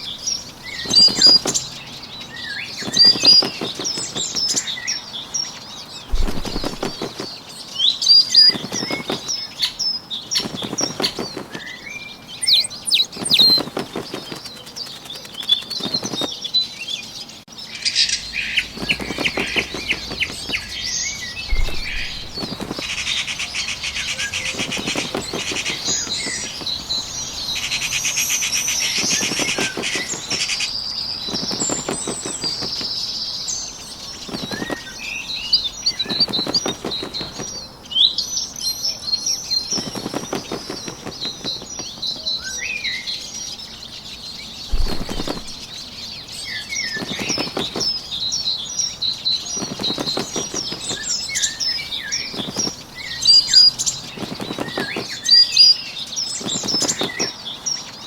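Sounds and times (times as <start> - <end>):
bird wings flapping: 0.0 - 16.7, 18.4 - 38.2, 39.2 - 43.2, 43.9 - 57.6
birds chirping and trilling: 0.0 - 58.0.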